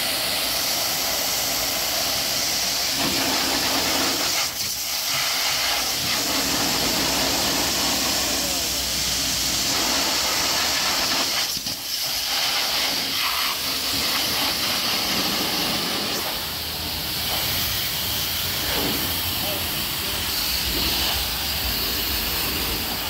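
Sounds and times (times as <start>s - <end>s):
pressure washer jet hissing: 0.0s - 23.0s.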